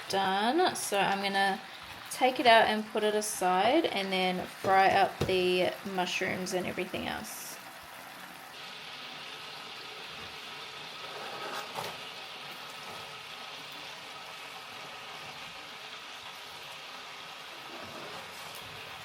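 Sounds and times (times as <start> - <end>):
chicken sizzling in a frying pan: 0.0 - 19.0.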